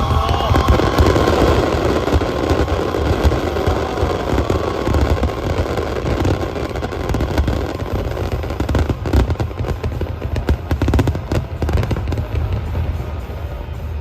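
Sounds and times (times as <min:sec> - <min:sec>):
firework booms: 0:00.0 - 0:13.4
firework crackling: 0:00.0 - 0:14.0.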